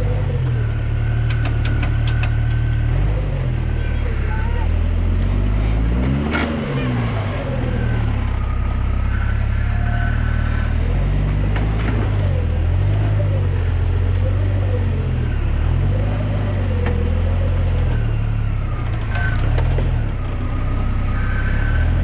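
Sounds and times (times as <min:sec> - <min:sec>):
buggy engine revving: 0:00.0 - 0:22.0.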